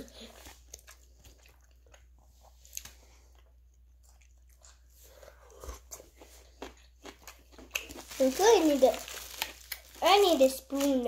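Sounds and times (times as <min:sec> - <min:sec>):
person chewing and crunching food: 0:00.0 - 0:11.0.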